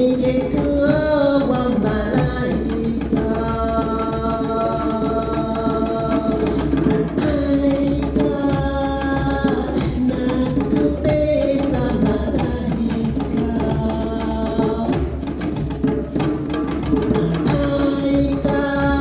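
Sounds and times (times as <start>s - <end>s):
drums beating: 0.0s - 19.0s.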